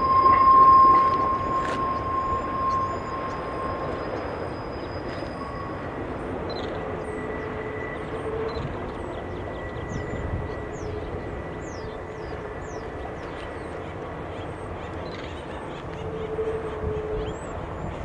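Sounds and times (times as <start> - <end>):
freight train rolling by: 0.0 - 18.0
thin steady whine: 0.0 - 18.0.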